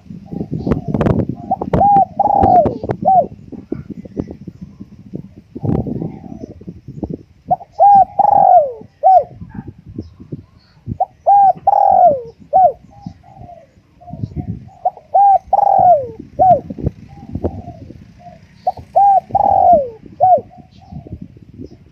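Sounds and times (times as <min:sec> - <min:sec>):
dove cooing: 0:00.0 - 0:06.8, 0:07.5 - 0:21.9.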